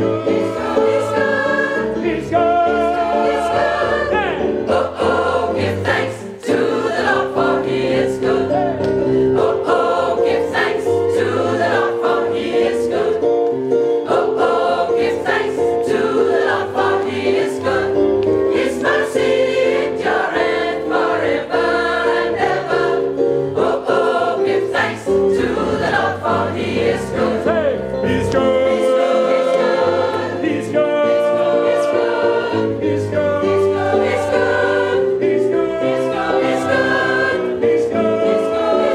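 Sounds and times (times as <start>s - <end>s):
gospel choir singing: 0.0s - 38.9s.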